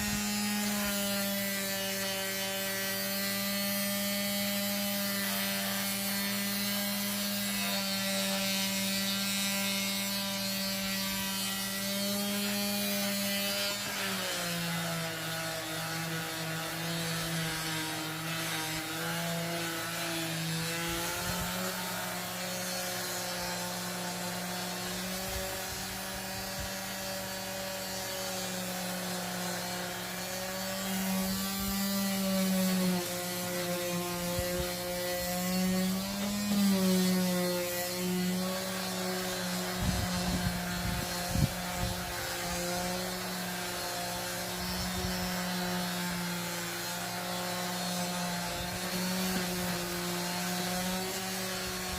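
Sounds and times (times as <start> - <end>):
electric sander on wood: 0.0 - 51.9.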